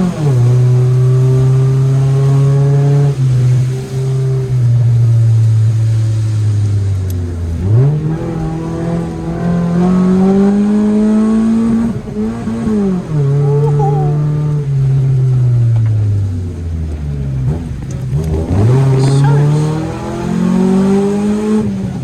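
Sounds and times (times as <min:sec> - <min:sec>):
car engine revving through gears: 0:00.0 - 0:22.0.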